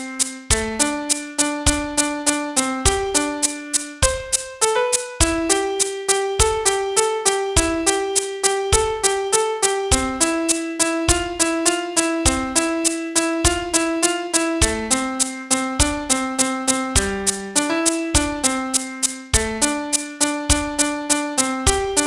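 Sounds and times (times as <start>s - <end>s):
piano melody: 0.0s - 22.0s.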